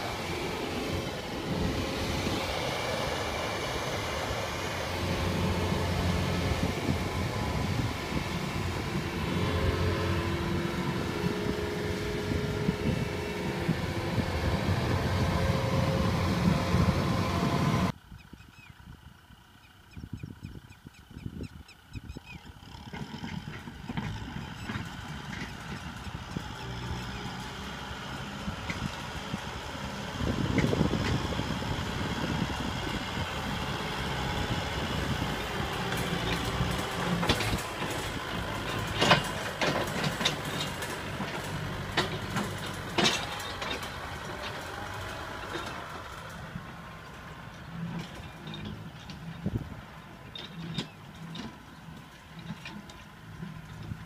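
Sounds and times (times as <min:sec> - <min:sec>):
combine harvester engine running: 0:00.0 - 0:54.0
diesel tractor engine: 0:00.0 - 0:54.0.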